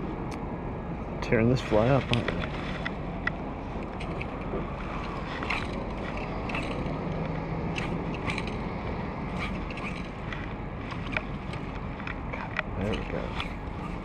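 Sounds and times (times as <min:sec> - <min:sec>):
steady background rush: 0:00.0 - 0:14.0
fishing rod and reel clicks: 0:02.0 - 0:14.0.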